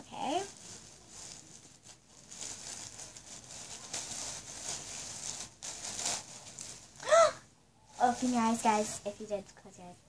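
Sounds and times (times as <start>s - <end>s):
stuffed toy rustling in a bag: 0.0s - 7.3s, 7.9s - 9.2s.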